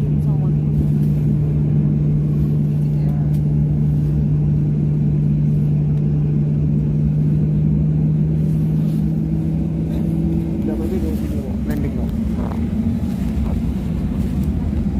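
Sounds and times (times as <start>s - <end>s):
steady engine drone: 0.0s - 14.9s.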